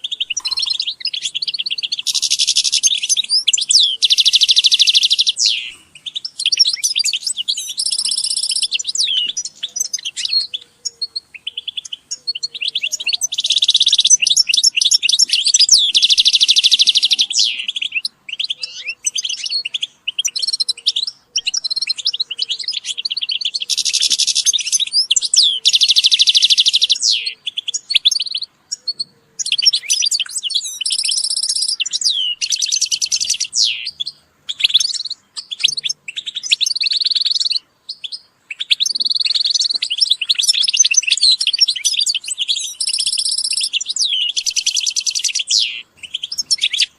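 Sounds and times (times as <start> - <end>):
goldfinches singing: 0.0 - 28.8, 29.4 - 46.9.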